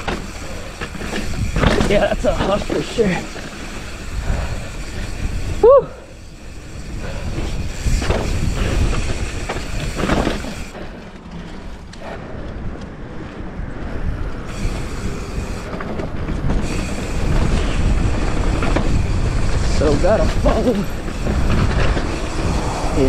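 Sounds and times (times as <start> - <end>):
bike rattling over bumps: 0.0 - 23.0
bike tyres rumbling on dirt: 0.0 - 23.0.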